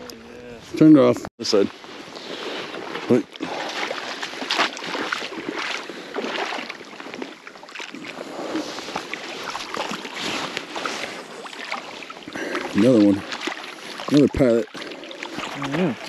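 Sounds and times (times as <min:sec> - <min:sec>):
water splashing and lapping: 0:01.4 - 0:16.0.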